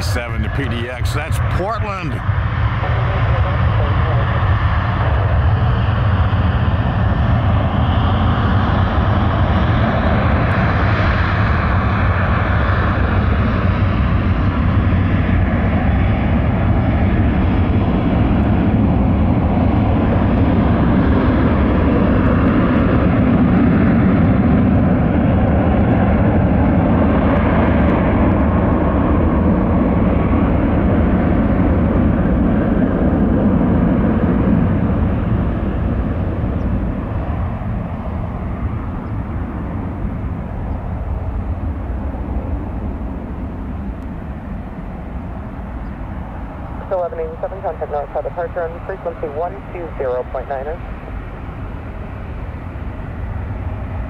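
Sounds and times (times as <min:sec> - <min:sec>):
jet engines rumbling at takeoff: 0:00.0 - 0:54.0.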